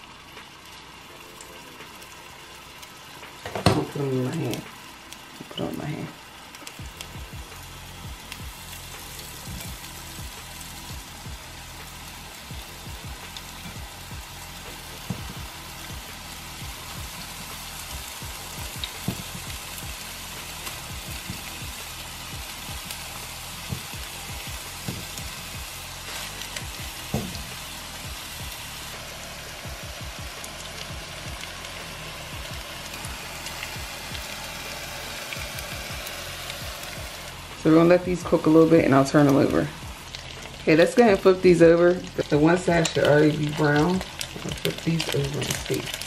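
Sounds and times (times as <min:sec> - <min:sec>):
meatballs sizzling in oil: 0:00.0 - 0:46.0.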